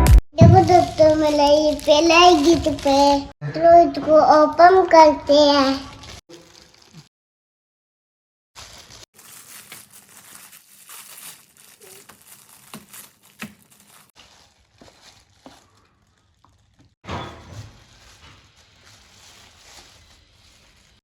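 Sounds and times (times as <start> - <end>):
wrapping paper crinkling and tearing: 0.6 - 3.3, 5.4 - 7.1, 8.6 - 21.0.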